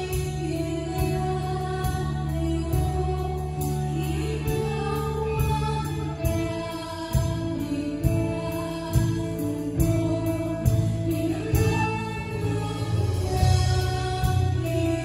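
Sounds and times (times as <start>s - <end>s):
guitars bass and keyboard: 0.0s - 15.0s
person singing: 0.0s - 15.0s.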